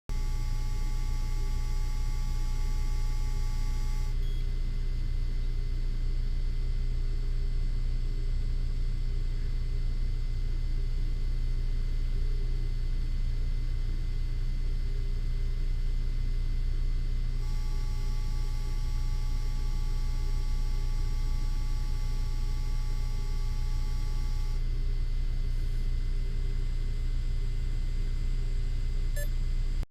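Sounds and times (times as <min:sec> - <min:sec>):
low electrical buzz: 0:00.1 - 0:29.9.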